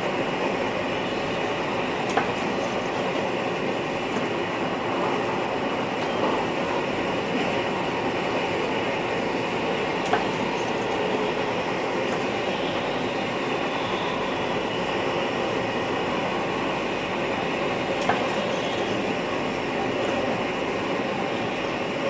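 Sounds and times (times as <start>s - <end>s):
electric train running: 0.0s - 22.0s.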